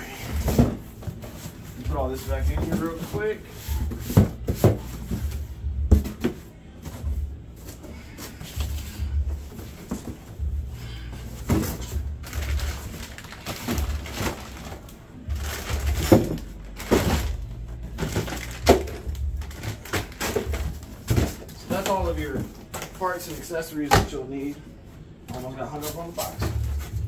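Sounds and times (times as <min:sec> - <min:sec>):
boxes packed into cardboard box: 0:00.0 - 0:24.5, 0:25.3 - 0:27.0.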